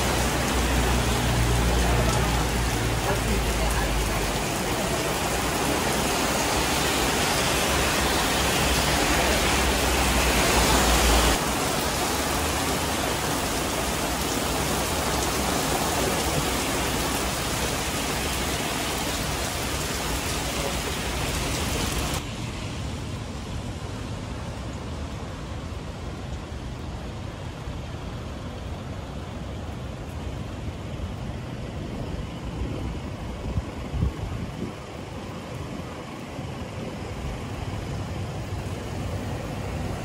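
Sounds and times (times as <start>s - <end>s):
heavy rain on pavement: 0.0s - 40.0s.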